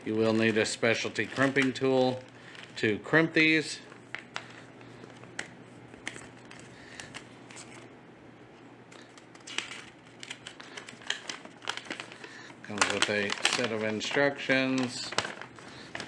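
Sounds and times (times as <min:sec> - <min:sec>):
paper and plastic bag crinkling: 0:00.0 - 0:07.9, 0:08.9 - 0:16.0.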